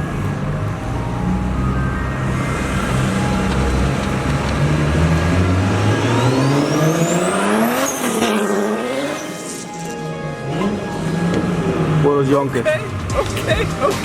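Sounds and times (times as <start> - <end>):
car engine accelerating hard: 0.0 - 9.8, 10.4 - 14.0.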